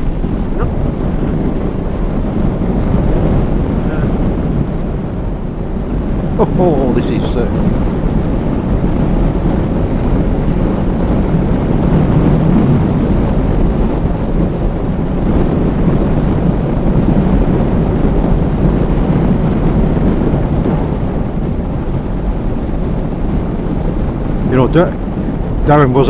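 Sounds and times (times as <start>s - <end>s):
road noise: 0.0s - 26.0s
wind rushing over microphone: 0.0s - 26.0s.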